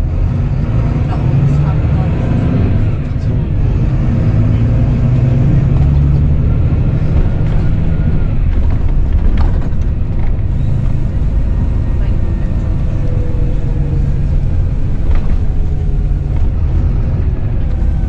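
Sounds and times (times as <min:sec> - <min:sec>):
coach diesel engine running: 0:00.0 - 0:18.0
road rumble: 0:00.0 - 0:18.0.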